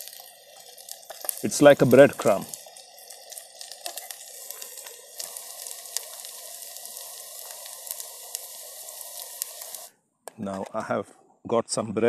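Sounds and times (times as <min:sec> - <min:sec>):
potatoes frying in hot oil: 0:00.0 - 0:09.9.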